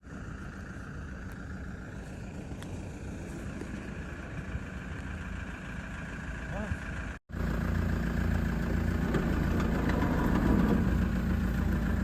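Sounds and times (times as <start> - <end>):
vehicle running rumble: 0.0 - 12.0.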